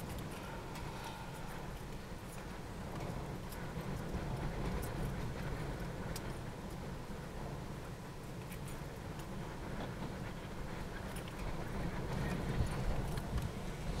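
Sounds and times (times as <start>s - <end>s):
distant freight train rumble: 0.0s - 14.0s
light clicks of train: 0.0s - 14.0s.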